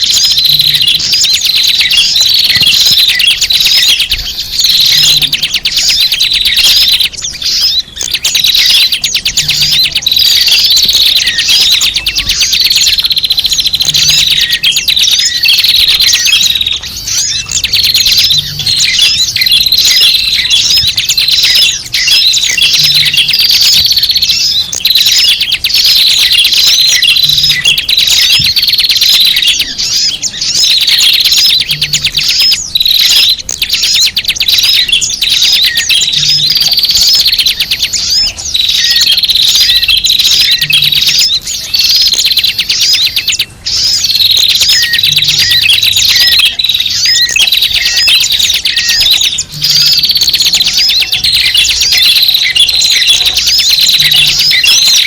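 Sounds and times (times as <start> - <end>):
many small birds chattering: 0.0 - 55.0.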